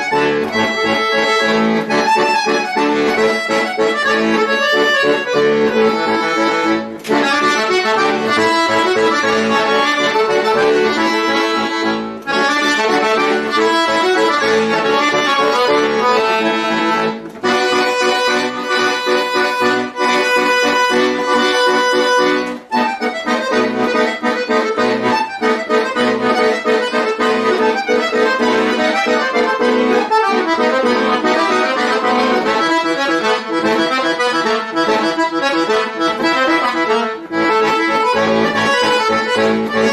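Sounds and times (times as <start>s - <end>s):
button accordion playing: 0.0s - 39.9s.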